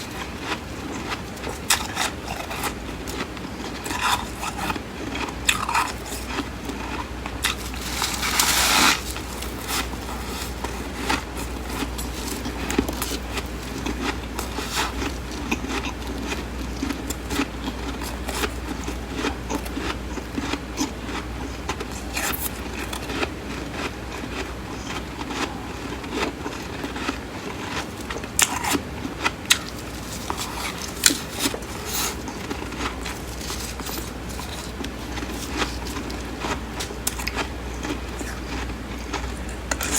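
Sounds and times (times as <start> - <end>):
frost being chewed crunching: 0.0 - 39.9
low steady hum: 0.0 - 39.9.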